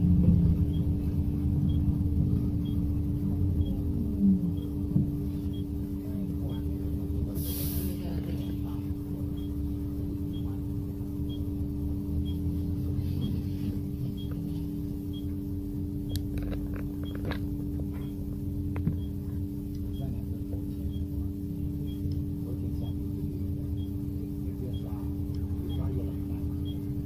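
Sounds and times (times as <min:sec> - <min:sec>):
electric drive hum: 0:00.0 - 0:27.0
low rumble: 0:00.0 - 0:27.0.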